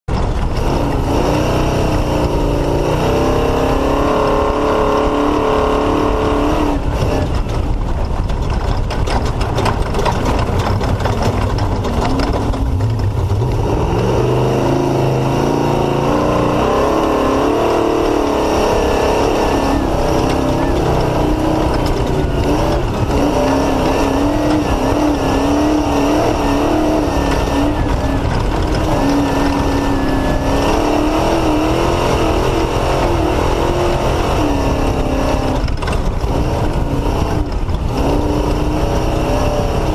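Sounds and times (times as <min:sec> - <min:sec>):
vehicle rattling over rough ground: 0:00.0 - 0:39.9
race vehicle engine revving: 0:00.1 - 0:39.9.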